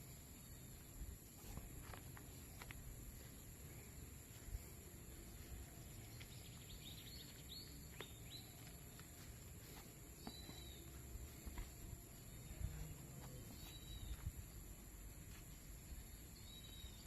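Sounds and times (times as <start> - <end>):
faint high bird chirps: 0.0 - 14.7, 15.9 - 17.0.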